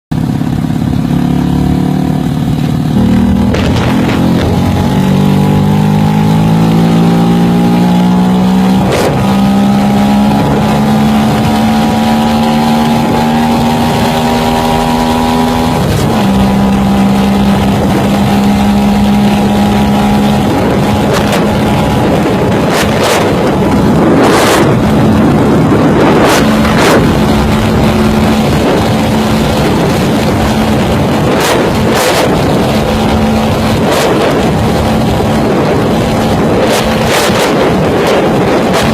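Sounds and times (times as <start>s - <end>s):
small vehicle engine driving: 0.1s - 38.9s
wind noise gusts: 2.1s - 38.9s.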